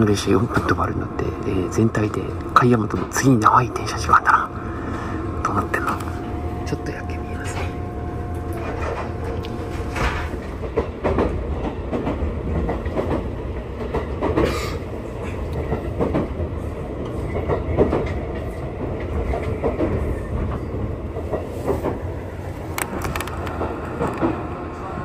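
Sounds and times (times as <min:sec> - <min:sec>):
train interior low rumble: 0:00.0 - 0:25.0.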